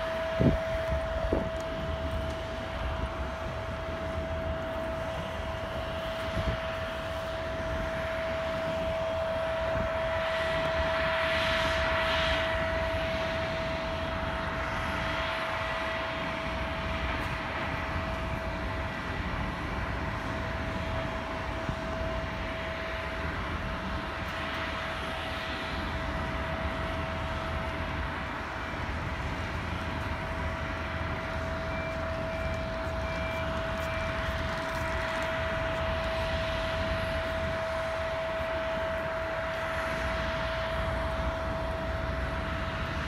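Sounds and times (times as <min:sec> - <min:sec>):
jet engine whine and rumble: 0:00.0 - 0:43.0.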